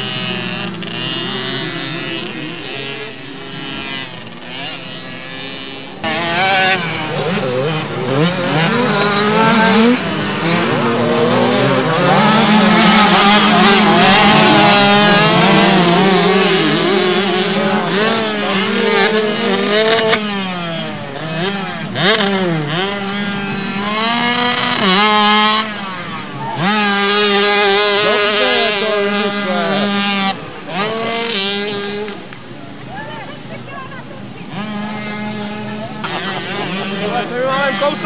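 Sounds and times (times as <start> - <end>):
motocross bikes revving: 0.0 - 38.0.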